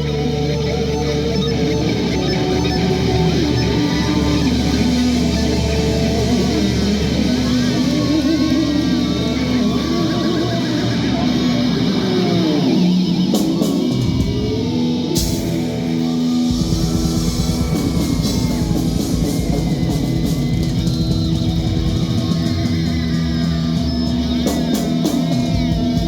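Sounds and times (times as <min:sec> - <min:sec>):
electric guitar bent notes: 0:00.0 - 0:26.0
live rock band playing: 0:00.0 - 0:26.0.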